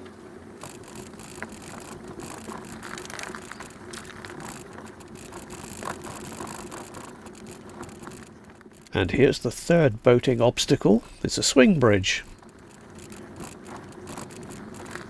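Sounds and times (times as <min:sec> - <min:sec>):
bicycle tyre noise: 0:00.0 - 0:15.0
bike clicks and rattles: 0:00.5 - 0:15.0.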